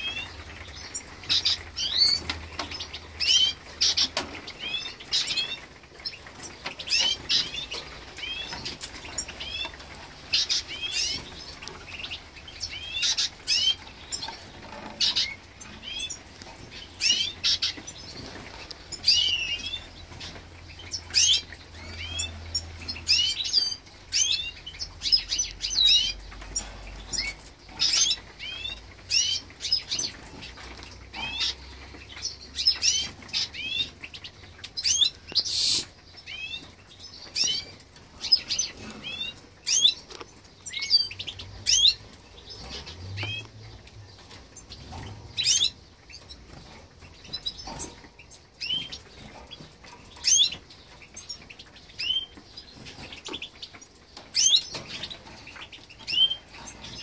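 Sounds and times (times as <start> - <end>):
finches chirping: 0.0 - 57.0.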